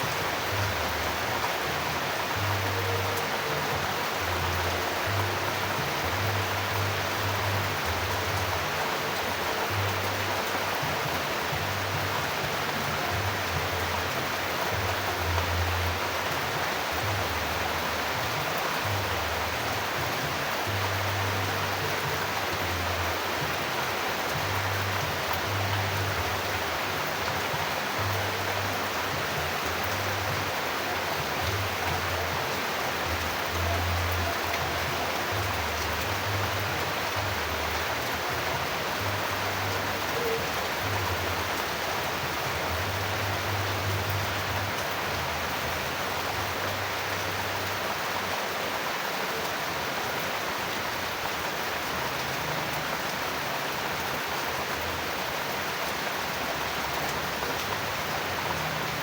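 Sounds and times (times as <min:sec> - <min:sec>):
soft background music: 0:00.0 - 0:59.0
steady rain: 0:00.0 - 0:59.0.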